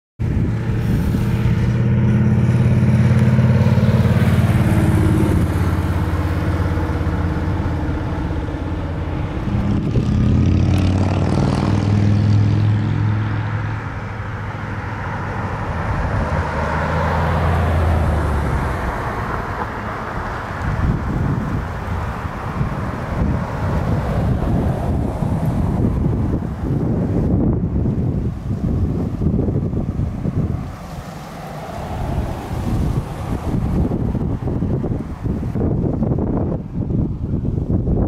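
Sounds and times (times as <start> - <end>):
vehicle engine humming: 0.2 - 38.0.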